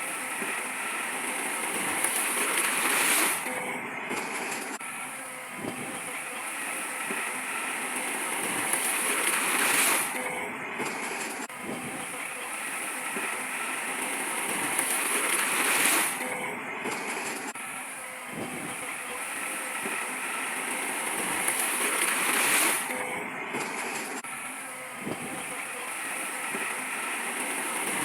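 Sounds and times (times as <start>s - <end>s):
heavy machinery rushing and rattling: 0.0s - 28.0s.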